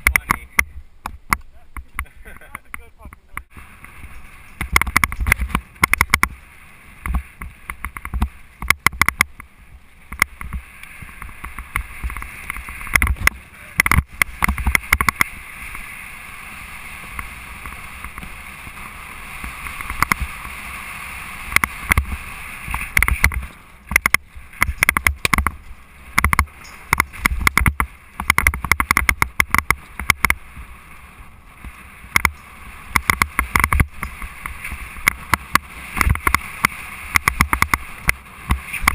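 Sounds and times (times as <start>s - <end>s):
rushing wind: 0.0s - 38.9s
tyre noise on dirt: 0.0s - 38.9s
mountain bike rattling over bumps: 3.6s - 38.9s.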